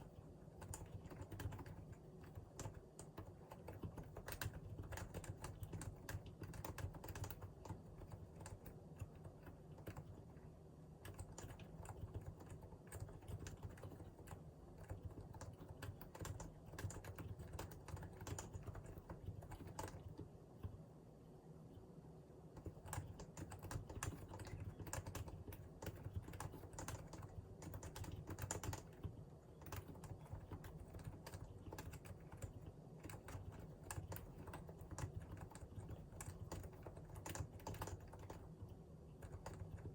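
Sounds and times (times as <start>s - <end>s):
keyboard typing: 0.0s - 10.3s, 11.0s - 20.8s, 22.6s - 39.9s.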